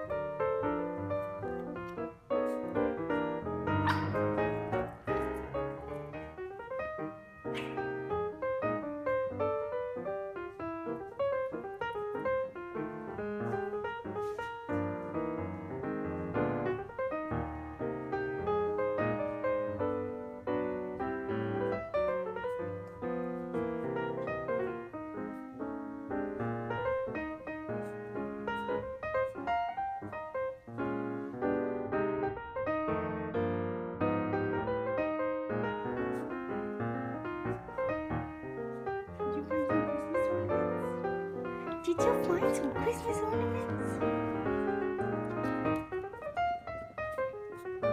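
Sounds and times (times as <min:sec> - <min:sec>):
piano music: 0:00.0 - 0:47.9.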